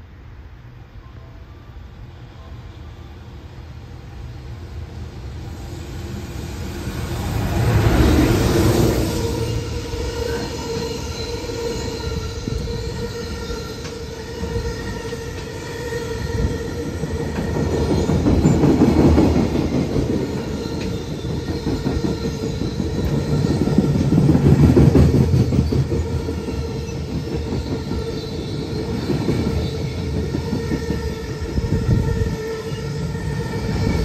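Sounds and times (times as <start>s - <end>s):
steady train whine: 0.0s - 34.0s
train wheels rumbling on rails: 4.0s - 34.0s.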